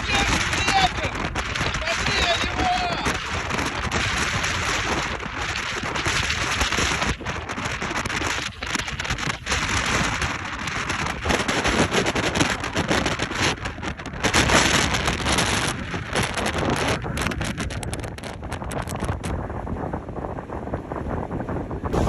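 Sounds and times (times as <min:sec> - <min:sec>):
storm wind buffeting microphone: 0:00.0 - 0:22.0.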